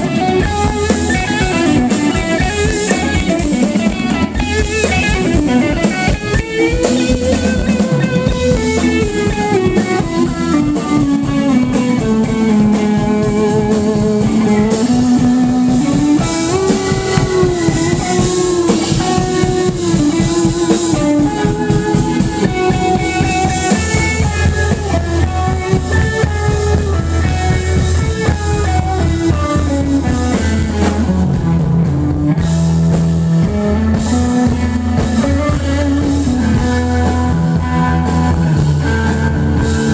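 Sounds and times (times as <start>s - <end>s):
drum kit: 0.0s - 39.9s
electric guitar: 0.0s - 39.9s
keyboard melody: 0.0s - 39.9s
live rock band playing: 0.0s - 39.9s.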